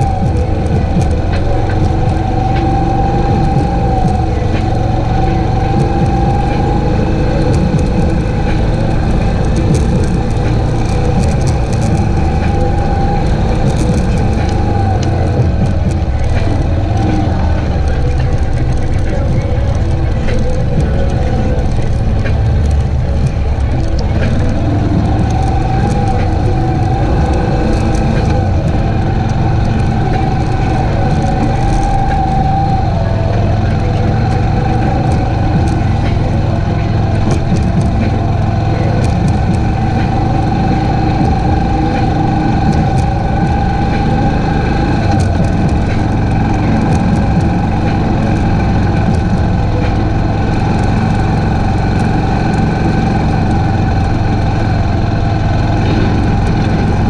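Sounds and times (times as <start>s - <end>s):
atv engine running: 0.0s - 57.0s
high whine: 0.0s - 57.0s.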